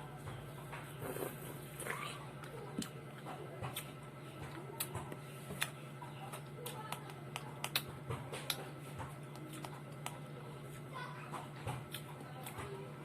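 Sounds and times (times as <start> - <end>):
steady low hum: 0.0 - 13.0
chewing: 0.6 - 12.9.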